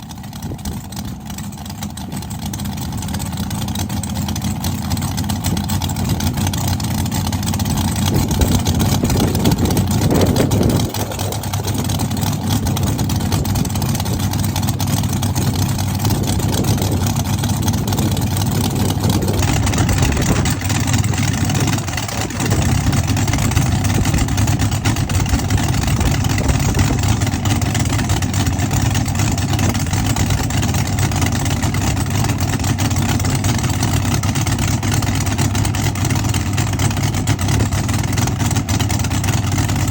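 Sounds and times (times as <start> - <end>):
drag car engine idling and revving: 0.0 - 39.9.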